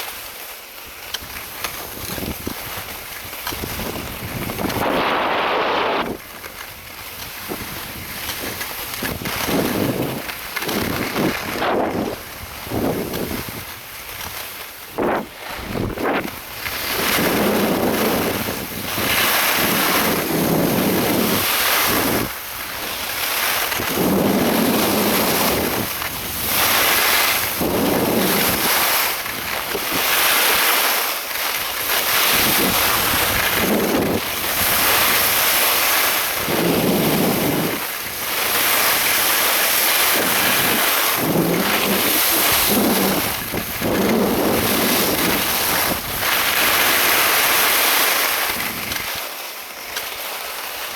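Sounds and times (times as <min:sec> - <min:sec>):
wind buffeting microphone: 0:01.9 - 0:30.1, 0:32.1 - 0:47.7.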